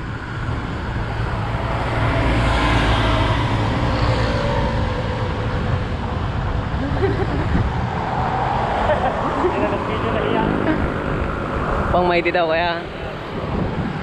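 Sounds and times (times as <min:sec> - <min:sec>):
bicycle road and wind noise: 0:00.0 - 0:14.0.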